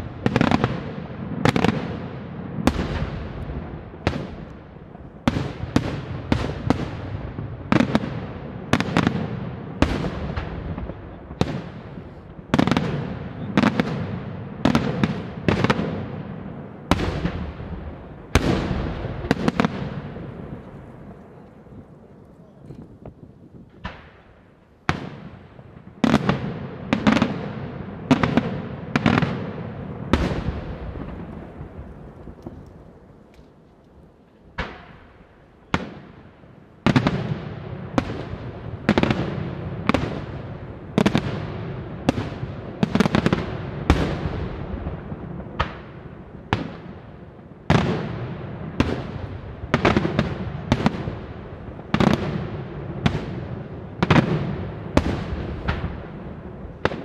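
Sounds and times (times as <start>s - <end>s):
fireworks bursting with echo: 0.0s - 57.0s.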